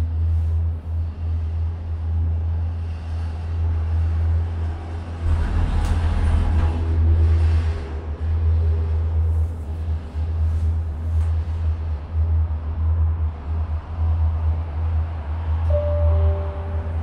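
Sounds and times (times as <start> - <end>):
gondola cabin rumble: 0.0 - 17.0.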